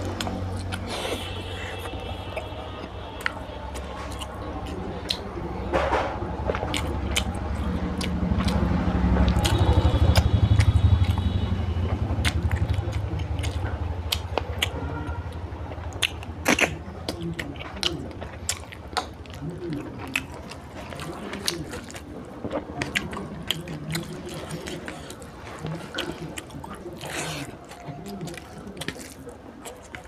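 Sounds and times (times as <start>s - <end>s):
chewing smacks: 0.0s - 30.0s.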